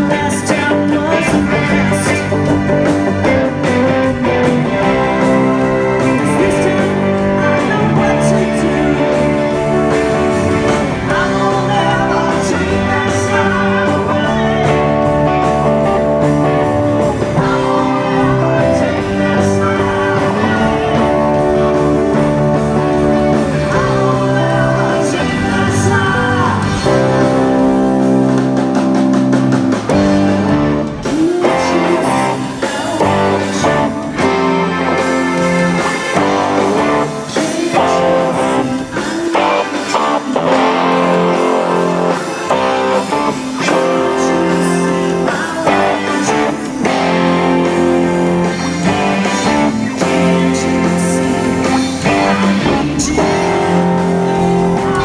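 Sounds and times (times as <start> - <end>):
electric guitar: 0.0 - 55.0
live rock band playing: 0.0 - 55.0.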